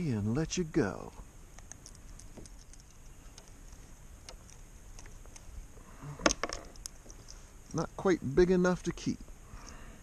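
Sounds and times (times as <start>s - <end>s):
low steady hiss: 0.0s - 10.0s
small ticks and clicks: 1.0s - 9.9s.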